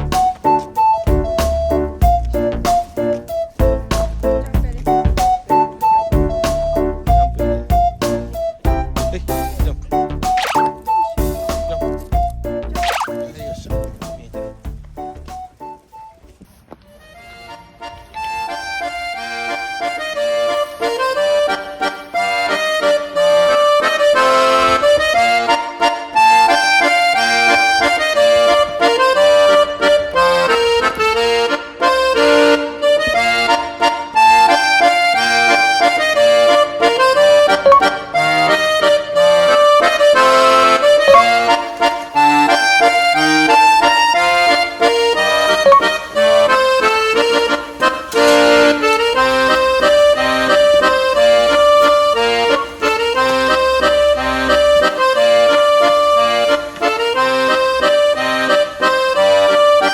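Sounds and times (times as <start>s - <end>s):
instrumental music with accordion: 0.0s - 59.9s.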